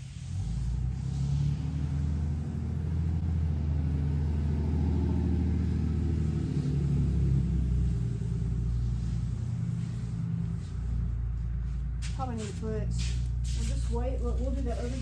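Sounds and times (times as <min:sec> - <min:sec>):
motor running low rumble: 0:00.0 - 0:15.0.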